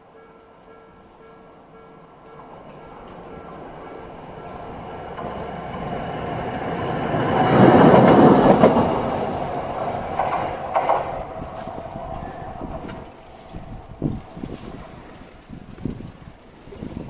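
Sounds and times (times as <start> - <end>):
tram wheel clatter: 0.0 - 17.0.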